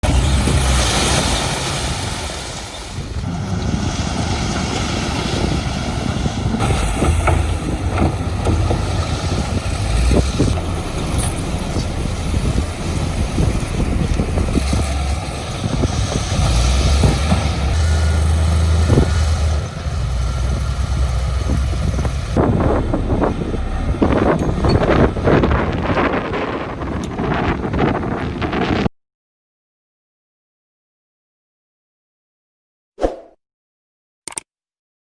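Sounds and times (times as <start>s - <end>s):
diesel machinery rumbling: 0.0s - 28.8s.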